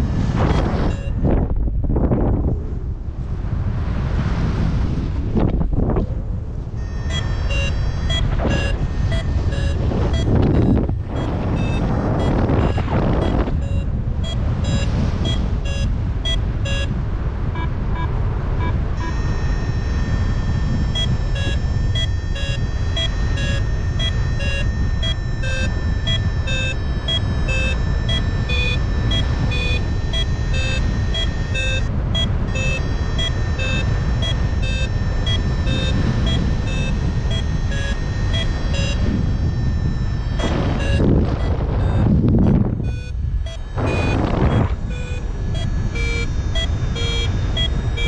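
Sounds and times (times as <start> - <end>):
variometer beeping: 0.0 - 1.5, 6.8 - 48.0
continuous high tone: 0.0 - 1.6, 6.7 - 48.0
wind noise on microphone: 0.0 - 48.0.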